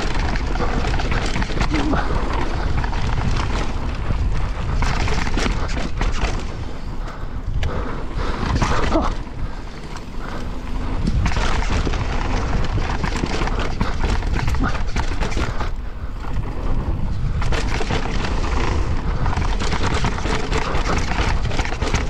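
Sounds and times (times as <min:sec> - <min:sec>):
bike rattling over bumps: 0:00.0 - 0:22.0
bike tyres rolling over dirt: 0:00.0 - 0:22.0
wind rumble on microphone: 0:00.0 - 0:22.0.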